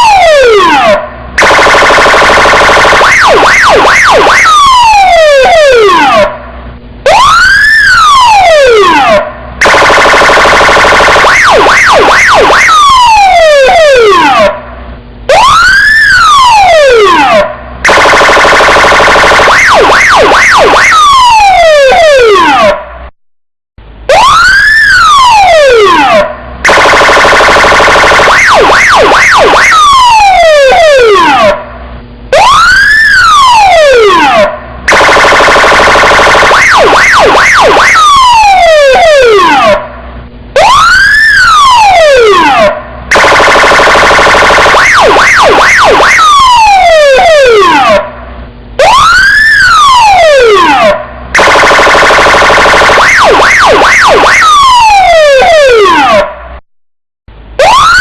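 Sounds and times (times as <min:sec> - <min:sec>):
electronic police siren: 0:00.0 - 0:23.1, 0:24.0 - 0:56.6, 0:57.3 - 0:58.0.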